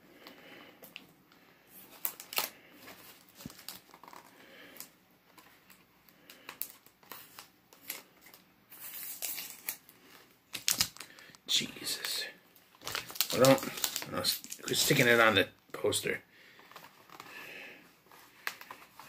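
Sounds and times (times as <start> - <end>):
plastic packaging crinkling: 1.8 - 15.4, 16.6 - 19.0.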